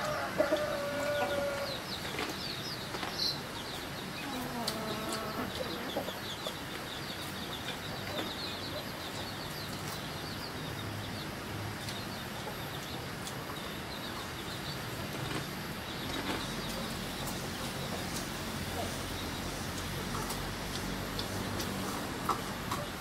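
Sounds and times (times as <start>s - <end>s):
birds chirping: 0.0s - 23.0s
steady background hiss: 0.0s - 23.0s.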